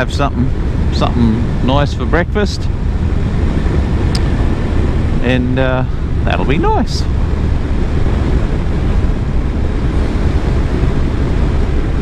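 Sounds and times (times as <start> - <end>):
motorcycle engine rumble: 0.0 - 12.0
wind rushing: 0.0 - 12.0.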